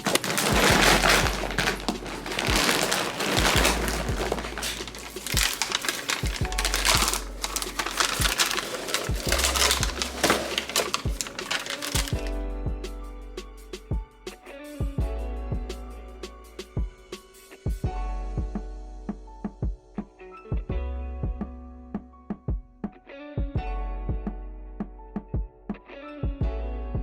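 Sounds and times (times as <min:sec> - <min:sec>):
background music with deep bass: 0:00.0 - 0:22.2, 0:23.4 - 0:27.0.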